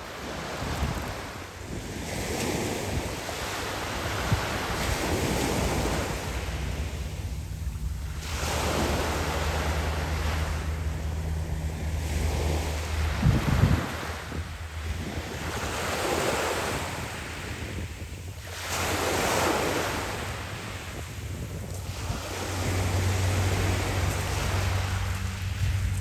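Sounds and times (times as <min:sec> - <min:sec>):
waves washing up pebble beach: 0:00.0 - 0:26.0.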